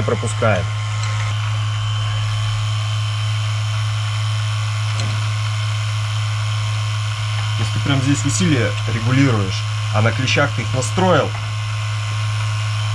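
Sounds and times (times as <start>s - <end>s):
vacuum pump motor humming: 0.0s - 12.9s.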